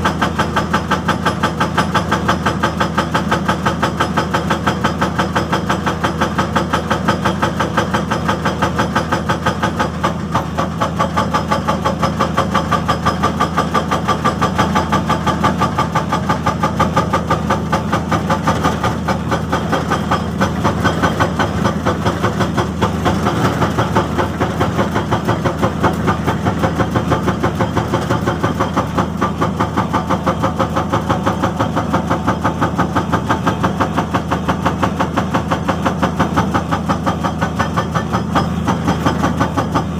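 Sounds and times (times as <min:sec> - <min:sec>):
diesel engine running: 0:00.0 - 0:39.9
hydraulic breaker hammer blows: 0:00.0 - 0:39.9.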